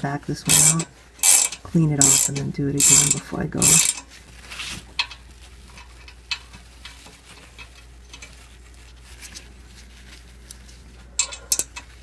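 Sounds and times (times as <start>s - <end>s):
low steady hum: 0.0s - 12.0s
gloved hands rustling: 0.5s - 12.0s.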